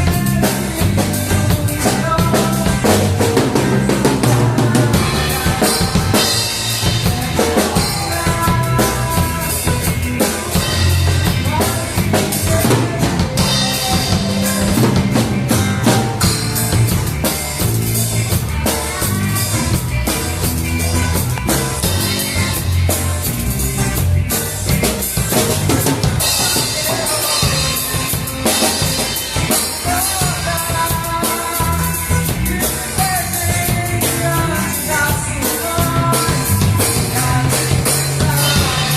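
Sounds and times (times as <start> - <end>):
drum kit beat: 0.0 - 38.9
worship band playing: 0.0 - 38.9.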